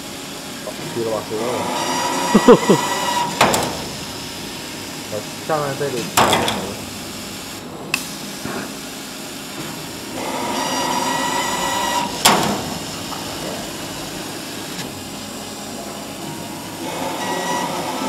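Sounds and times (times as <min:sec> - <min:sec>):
machine whining tone: 0:00.0 - 0:08.0, 0:09.3 - 0:18.0
laser cutting machine hissing: 0:00.0 - 0:18.0.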